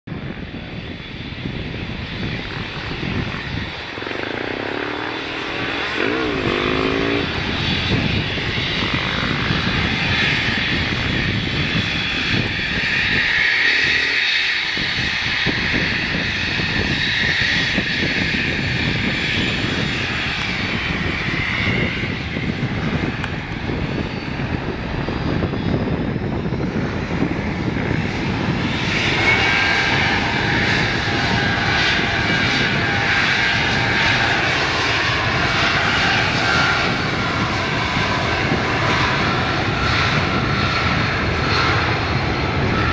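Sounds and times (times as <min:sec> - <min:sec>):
jet engine high whine: 0:00.1 - 0:42.9.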